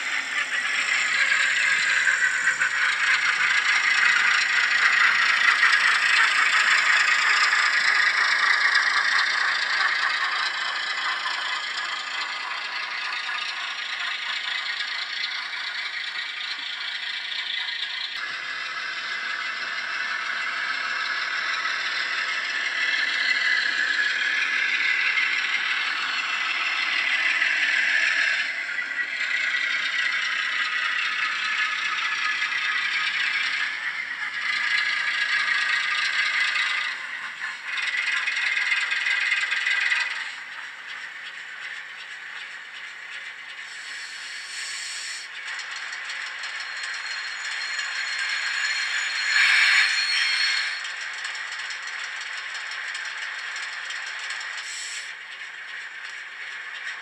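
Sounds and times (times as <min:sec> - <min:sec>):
model locomotive diesel engine sound: 0:00.0 - 0:57.0
model train rattling over track: 0:00.0 - 0:57.0.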